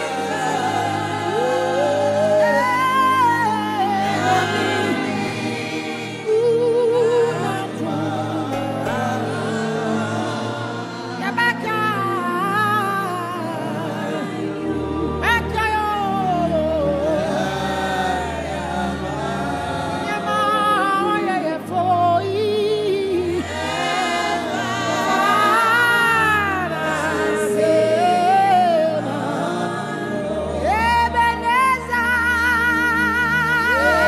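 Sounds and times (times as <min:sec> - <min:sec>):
second singer: 0:00.0 - 0:34.0.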